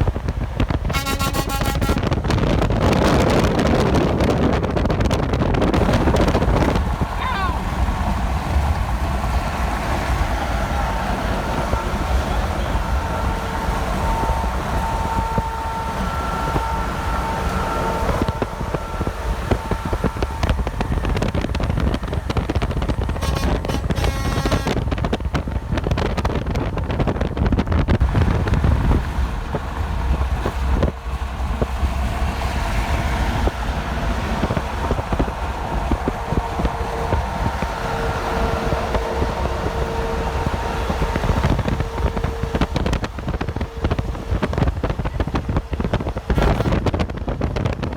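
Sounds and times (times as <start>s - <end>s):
highway traffic rumble: 0.0s - 47.9s
wind on microphone: 0.0s - 47.9s
faint steady whining tones: 5.8s - 26.0s, 28.0s - 47.8s.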